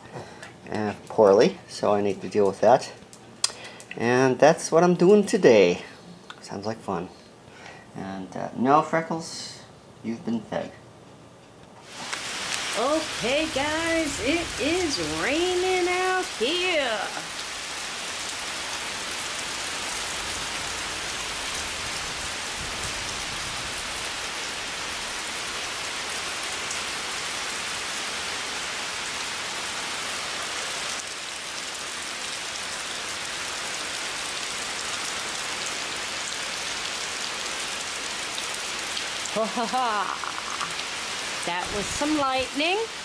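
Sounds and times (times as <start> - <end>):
rain falling on concrete: 0.3 - 4.2, 11.8 - 43.0.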